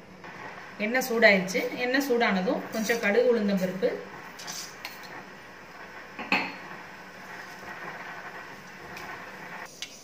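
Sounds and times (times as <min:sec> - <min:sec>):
seeds sizzling in hot oil: 0:00.0 - 0:10.0.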